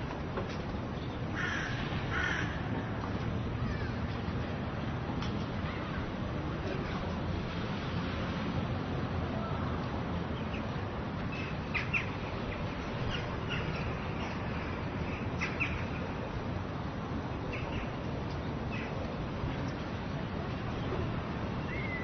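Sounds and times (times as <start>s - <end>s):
street background hum: 0.0s - 22.0s.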